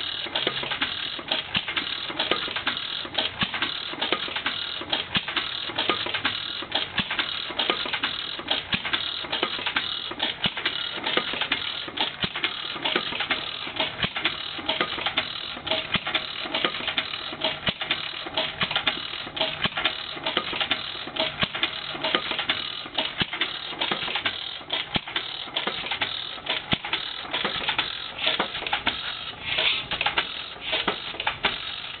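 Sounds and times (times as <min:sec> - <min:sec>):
stationary engine clattering: 0:00.0 - 0:32.0.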